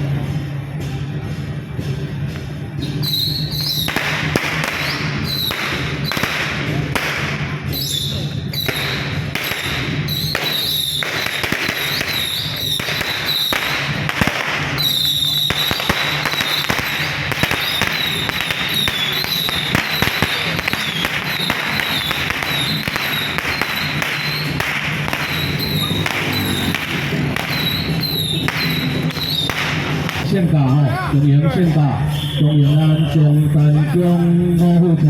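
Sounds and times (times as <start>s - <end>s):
firecrackers crackling: 2.9s - 31.0s.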